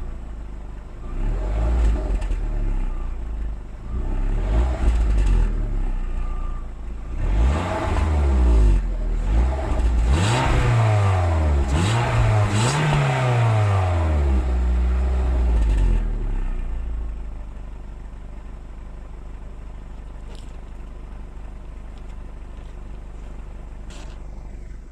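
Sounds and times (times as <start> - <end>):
car engine revving and idling: 0.0 - 24.9.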